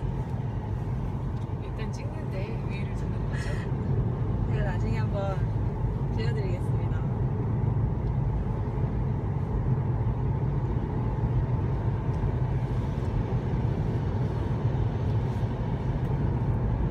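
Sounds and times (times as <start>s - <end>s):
car engine and tyre noise: 0.0s - 16.9s.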